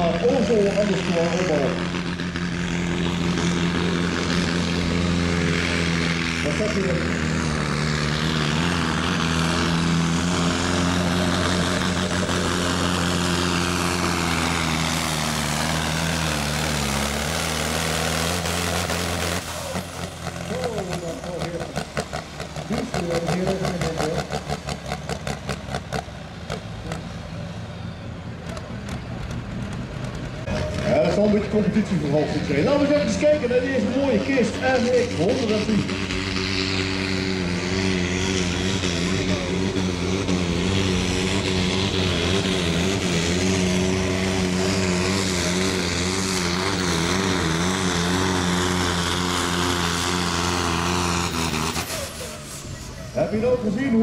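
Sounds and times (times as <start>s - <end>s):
tractor engine labouring: 0.0s - 54.0s.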